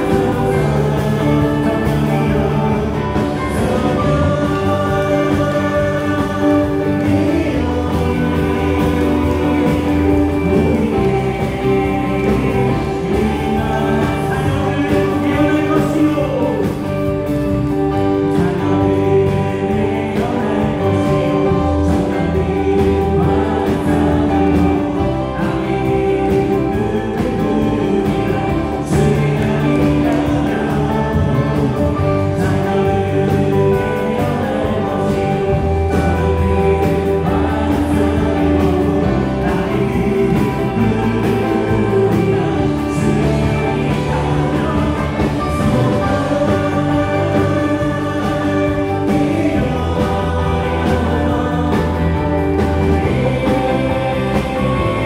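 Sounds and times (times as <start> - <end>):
band playing praise song: 0.0 - 55.0
group of voices singing: 0.0 - 55.0.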